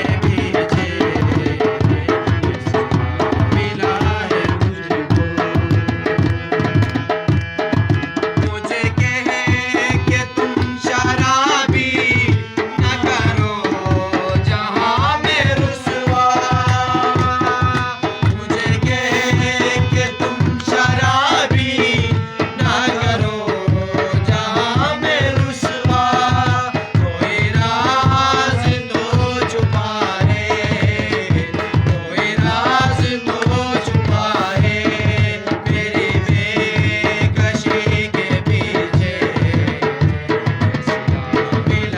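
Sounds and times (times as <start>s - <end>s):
tabla rhythm: 0.0s - 41.9s.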